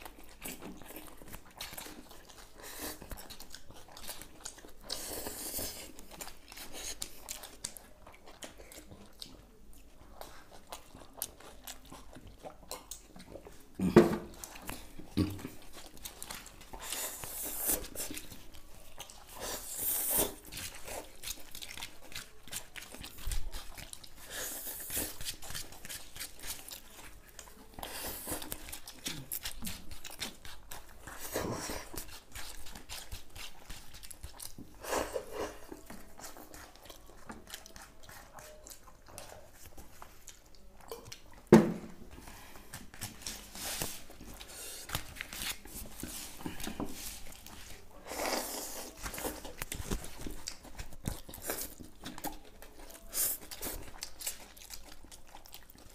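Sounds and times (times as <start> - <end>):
people chewing and slurping: 0.0 - 55.9.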